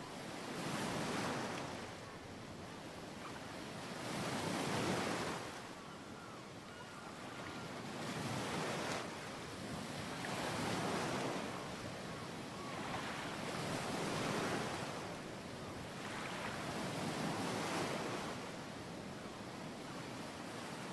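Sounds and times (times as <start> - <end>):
waves breaking on a beach: 0.0 - 20.9.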